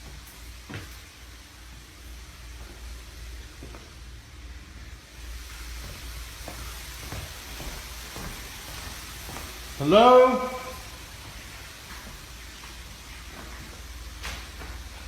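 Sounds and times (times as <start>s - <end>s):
faint footsteps: 0.0s - 15.0s
steady hiss and low hum: 0.0s - 15.0s.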